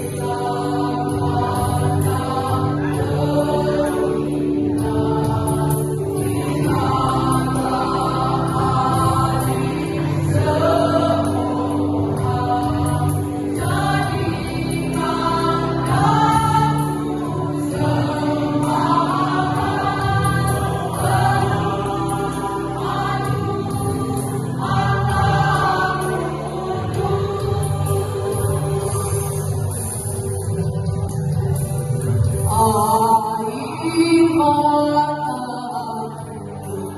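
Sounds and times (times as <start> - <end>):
choir singing: 0.0 - 30.0.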